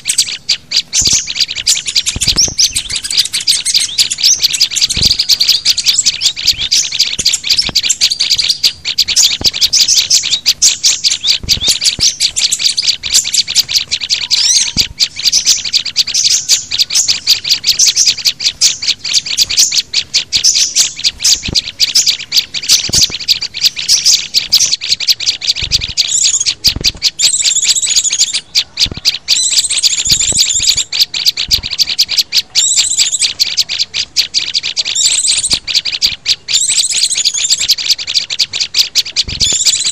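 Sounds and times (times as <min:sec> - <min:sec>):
bird trills: 0:00.0 - 0:39.9
songbirds chirping: 0:00.0 - 0:39.9.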